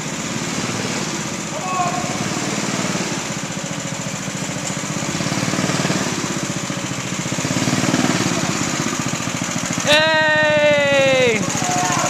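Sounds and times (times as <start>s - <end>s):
go-kart engine puttering: 0.0s - 12.0s.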